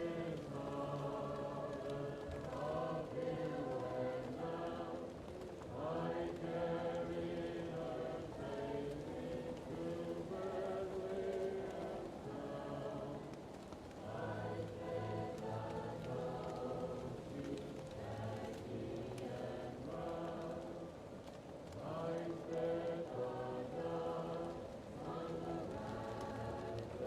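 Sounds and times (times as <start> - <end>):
muffled choir singing: 0.0 - 27.0
wood fire crackling: 0.0 - 27.0.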